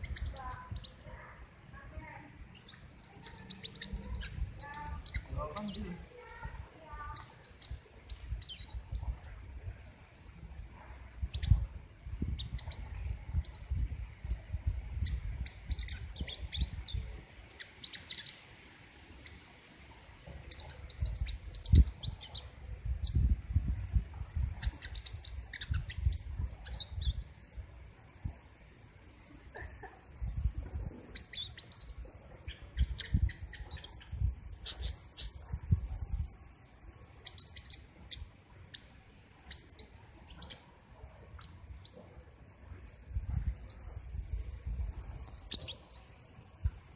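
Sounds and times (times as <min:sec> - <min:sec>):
songbird twittering: 0:00.0 - 0:19.4, 0:20.4 - 0:23.6, 0:24.2 - 0:42.1, 0:42.7 - 0:46.7.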